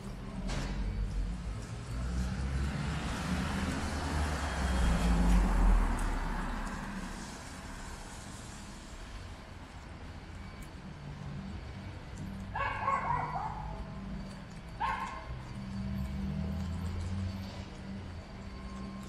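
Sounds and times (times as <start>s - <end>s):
tyres hissing on wet street: 0.0s - 19.0s.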